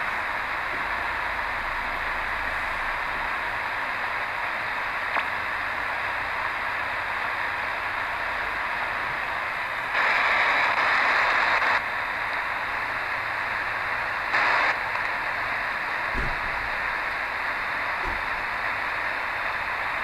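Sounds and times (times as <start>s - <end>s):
shortwave radio static hiss: 0.0s - 20.0s
rush of radio noise: 3.3s - 20.0s.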